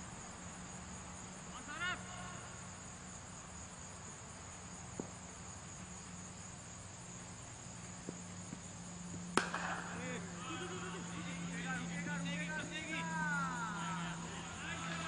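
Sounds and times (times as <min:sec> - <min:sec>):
faint low hum: 0:00.0 - 0:15.0
insects chorus: 0:00.0 - 0:15.0.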